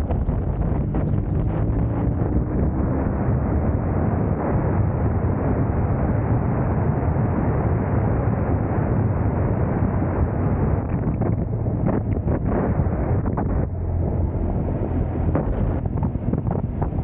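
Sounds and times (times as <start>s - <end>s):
motorcycle engine drone: 0.0s - 17.0s
wind rush on microphone: 0.0s - 17.0s.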